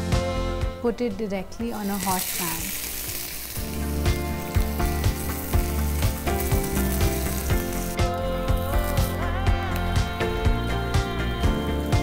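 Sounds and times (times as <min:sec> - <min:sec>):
background music with steady beat: 0:00.0 - 0:12.0
paratha sizzling in oil: 0:01.7 - 0:12.0.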